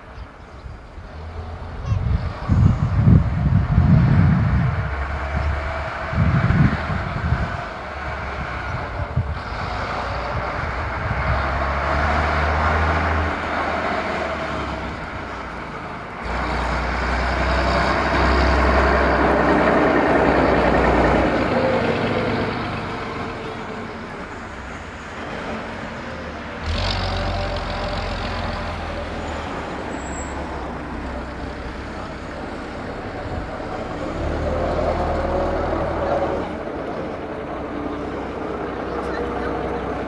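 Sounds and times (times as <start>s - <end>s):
bus diesel engine passing: 0.0s - 40.0s.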